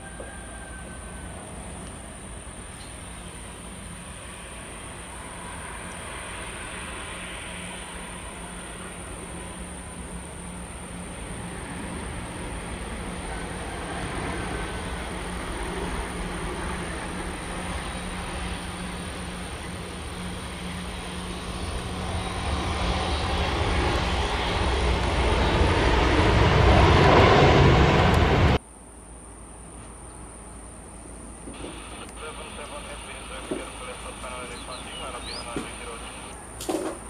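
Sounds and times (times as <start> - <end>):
steady background noise: 0.0 - 26.5, 28.4 - 37.0
jet engines roaring: 3.4 - 28.6, 31.5 - 36.8.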